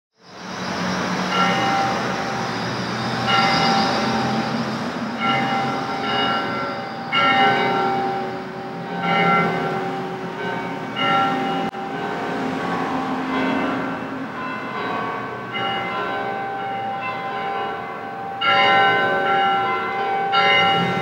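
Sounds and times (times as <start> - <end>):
street traffic: 0.2 - 21.0
church bells tolling: 1.2 - 21.0.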